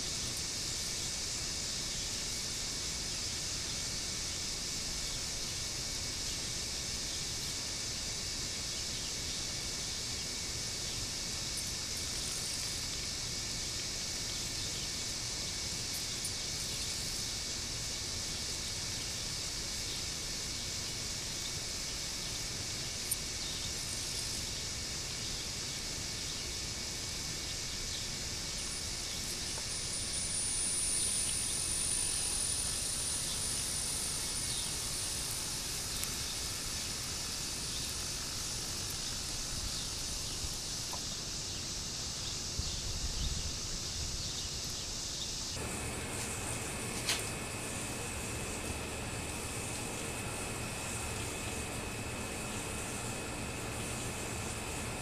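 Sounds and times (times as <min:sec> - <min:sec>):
outdoor hiss: 0:00.0 - 0:55.0.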